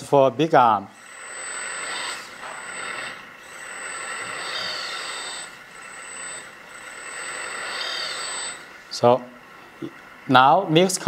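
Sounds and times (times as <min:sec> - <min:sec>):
hydraulic pump whirring and hissing: 0:00.0 - 0:10.9.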